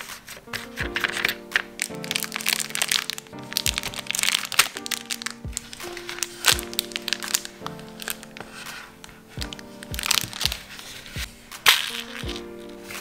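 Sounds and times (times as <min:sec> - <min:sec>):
background music: 0:00.0 - 0:13.0
plastic bags crinkling: 0:00.0 - 0:13.0.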